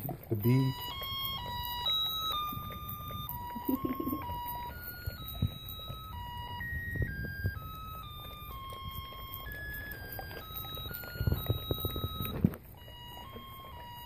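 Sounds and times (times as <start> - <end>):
electronic beeping tune: 0.4 - 14.0.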